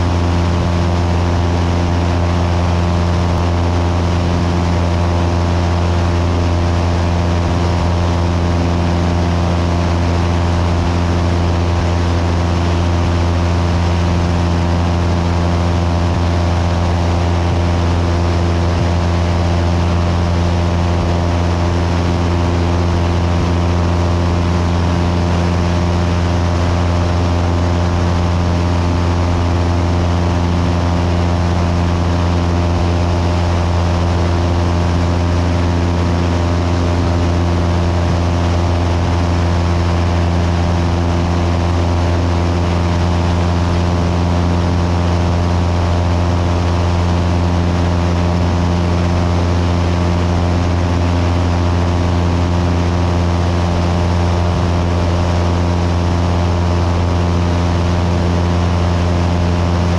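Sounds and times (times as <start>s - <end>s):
airplane engine droning: 0.0s - 59.9s.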